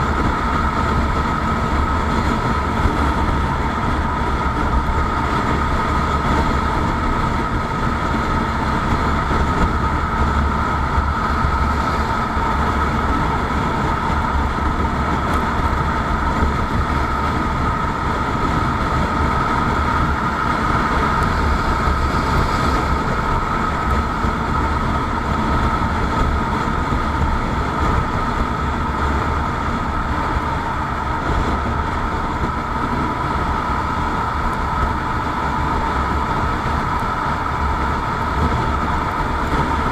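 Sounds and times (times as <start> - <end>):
vehicle running rumble: 0.0 - 39.9.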